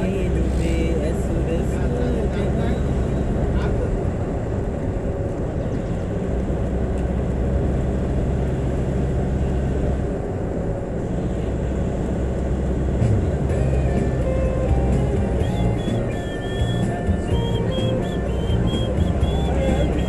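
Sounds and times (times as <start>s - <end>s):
vehicle engine and tyres rumbling: 0.0s - 20.0s.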